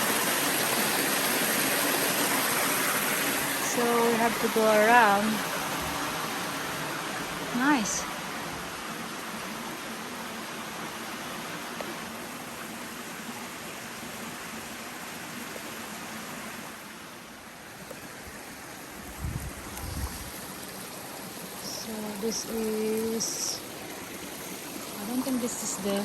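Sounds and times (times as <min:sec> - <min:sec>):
river flowing over rocks: 0:00.0 - 0:26.0.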